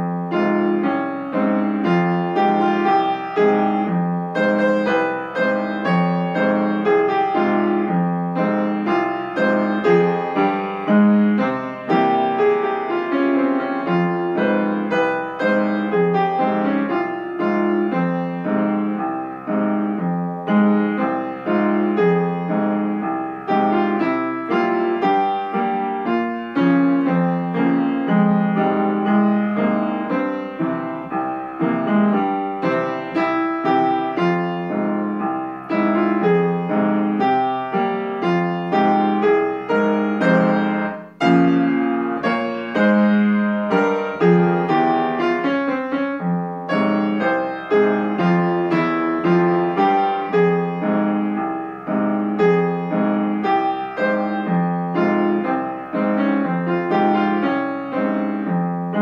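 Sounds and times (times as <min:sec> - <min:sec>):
solo piano: 0:00.0 - 0:59.0.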